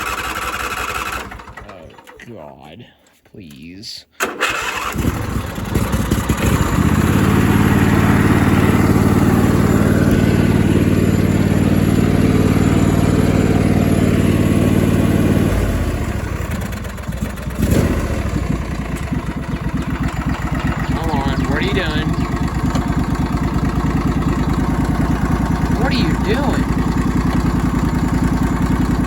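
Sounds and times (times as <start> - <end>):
engine knock: 0.0 - 2.1, 4.7 - 29.0
small gasoline engine running: 0.0 - 2.2, 4.2 - 29.0.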